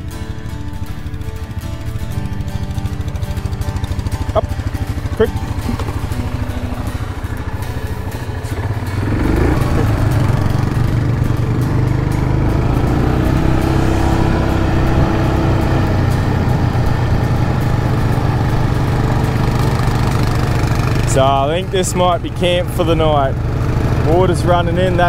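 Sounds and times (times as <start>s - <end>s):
quad bike engine: 0.0s - 25.0s.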